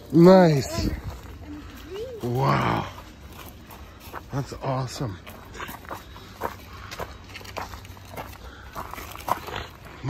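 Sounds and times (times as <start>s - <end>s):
footsteps on pavement: 0.0s - 10.0s.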